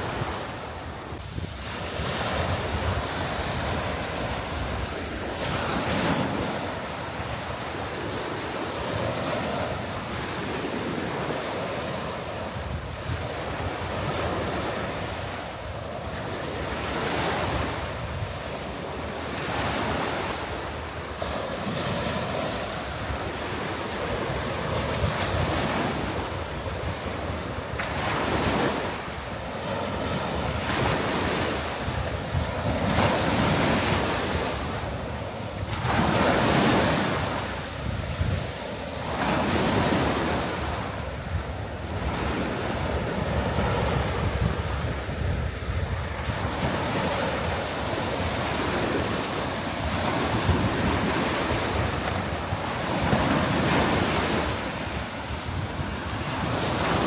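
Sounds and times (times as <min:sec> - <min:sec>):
small waves breaking on sand: 0:00.0 - 0:57.0
wind buffeting microphone: 0:00.0 - 0:57.0.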